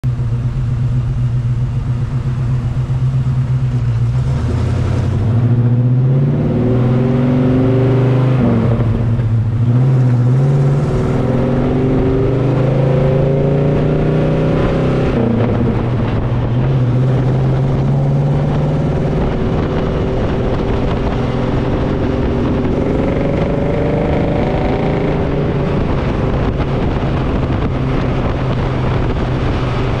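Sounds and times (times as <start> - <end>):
truck engine accelerating through gears: 0.0 - 30.0.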